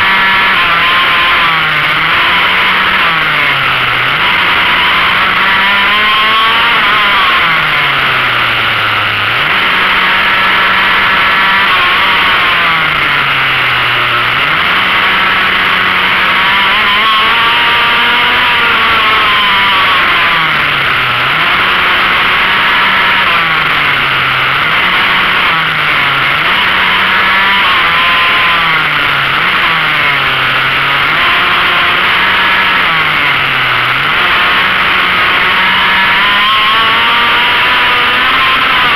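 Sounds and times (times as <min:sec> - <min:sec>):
pocket bike engine revving: 0:00.0 - 0:38.9
wind and road noise: 0:00.0 - 0:38.9.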